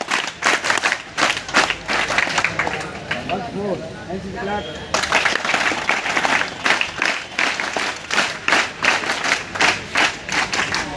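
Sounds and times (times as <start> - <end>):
large crowd clapping: 0.0 - 3.4, 4.9 - 10.9.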